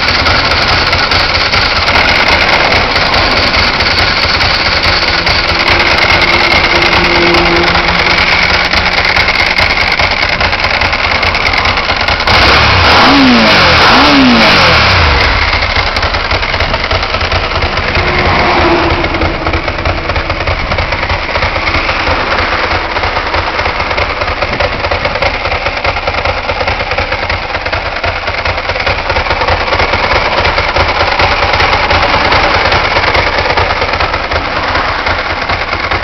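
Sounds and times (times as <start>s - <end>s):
engine throttle blips: 0.0s - 36.0s
motorcycle engine idling: 0.0s - 36.0s.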